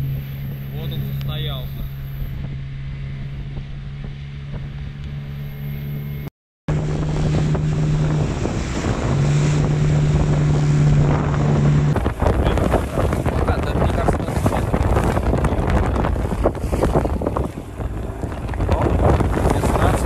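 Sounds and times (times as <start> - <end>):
motorboat engine running: 0.0 - 20.0
wind buffeting microphone: 0.0 - 20.0.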